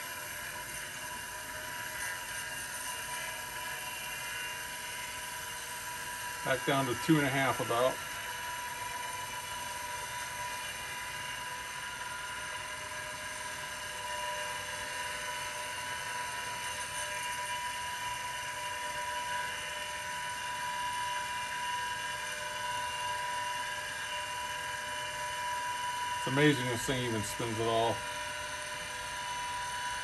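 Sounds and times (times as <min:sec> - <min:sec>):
hard drive spindle whine: 0:00.0 - 0:30.0.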